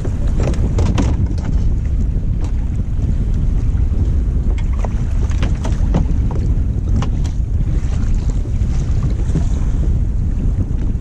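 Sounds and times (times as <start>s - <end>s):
water slapping kayak hull: 0.0s - 11.0s
wind buffeting microphone: 0.0s - 11.0s.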